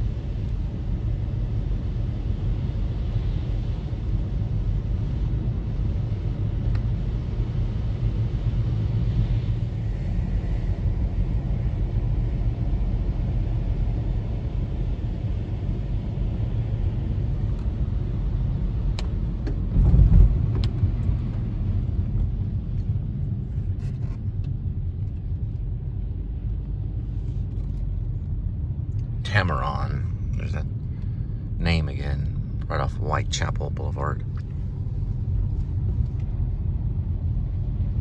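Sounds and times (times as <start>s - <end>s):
car road noise rumble: 0.0s - 38.0s.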